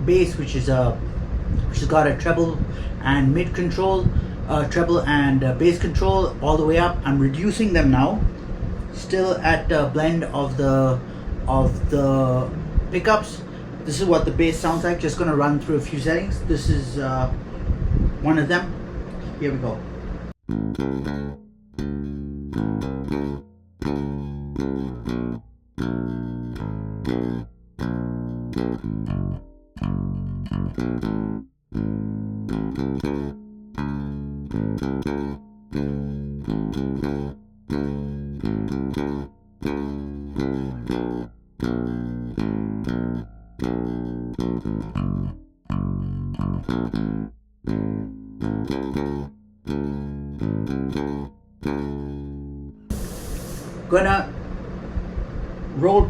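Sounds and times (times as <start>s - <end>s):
bass guitar riff: 0.0s - 56.0s.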